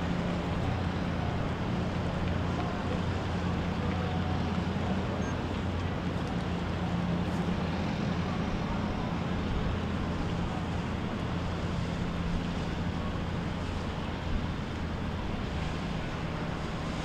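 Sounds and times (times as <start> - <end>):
boat engine drone: 0.0 - 17.0
wind and water rushing: 0.0 - 17.0.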